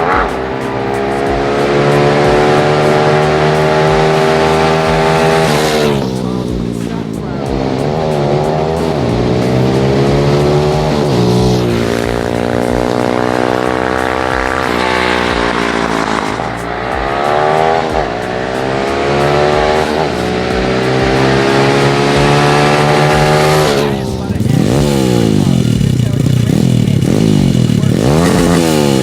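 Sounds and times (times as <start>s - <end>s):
motorbike engine revving: 0.0s - 29.0s
song with low beat: 0.0s - 29.0s.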